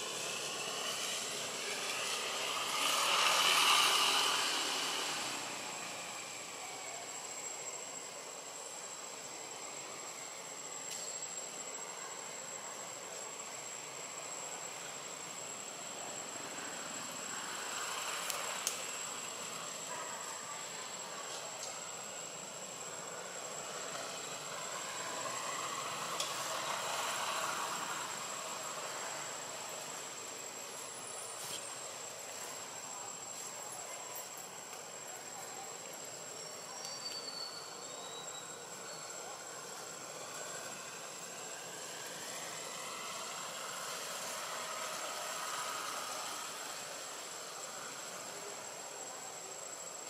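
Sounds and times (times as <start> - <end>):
steady hiss: 0.0 - 50.0.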